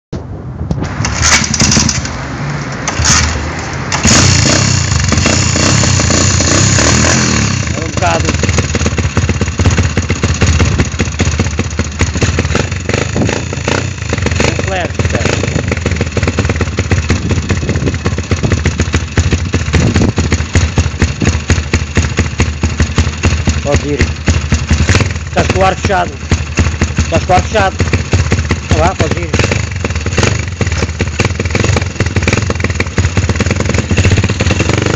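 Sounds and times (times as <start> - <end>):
motorbike engine running: 1.0 - 2.1, 2.9 - 34.9.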